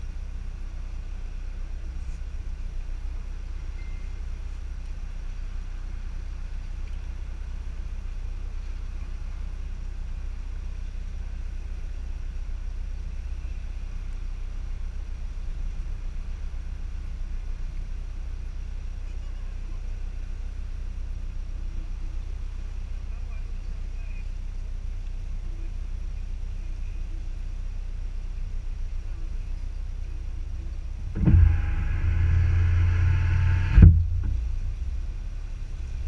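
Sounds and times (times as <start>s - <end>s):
faint outdoor noise: 0.0s - 36.0s.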